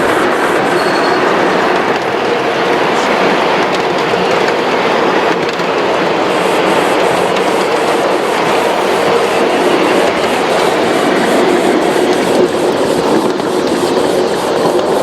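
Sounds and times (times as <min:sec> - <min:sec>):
train rolling rumble: 0:00.0 - 0:15.0
wheels clickety-clack over rail joints: 0:00.0 - 0:15.0.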